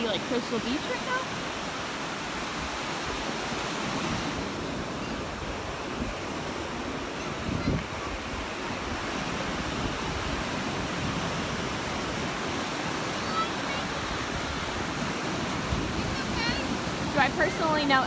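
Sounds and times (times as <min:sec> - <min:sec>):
surf breaking on beach: 0:00.0 - 0:18.0
wind buffeting microphone: 0:02.3 - 0:18.0.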